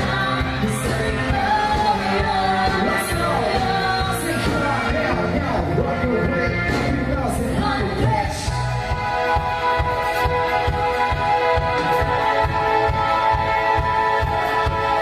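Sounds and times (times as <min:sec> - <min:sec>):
live band playing pop song: 0:00.0 - 0:15.0
person singing: 0:00.0 - 0:15.0.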